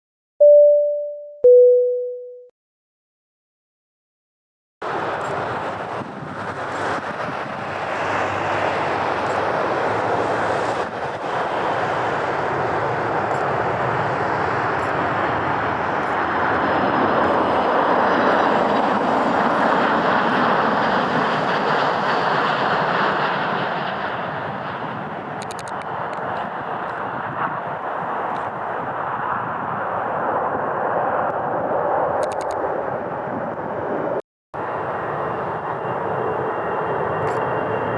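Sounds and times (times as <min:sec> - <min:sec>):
jet engines passing: 0:04.8 - 0:37.9.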